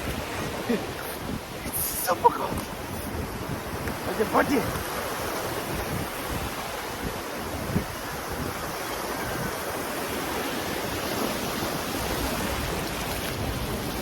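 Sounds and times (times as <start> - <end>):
sea waves washing: 0.0 - 14.0
wind on microphone: 0.0 - 14.0.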